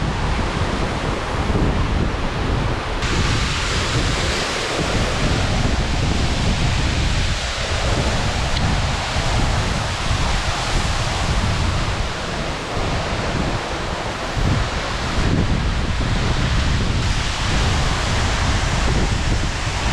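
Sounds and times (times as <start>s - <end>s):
waterfall rushing: 3.0s - 19.9s.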